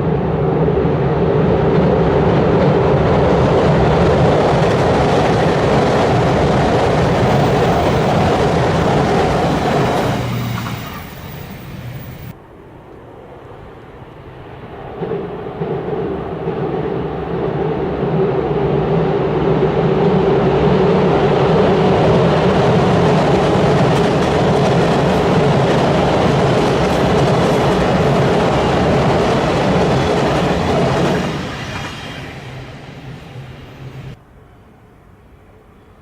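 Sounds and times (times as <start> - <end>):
electric train rumbling on bridge: 0.0 - 36.0.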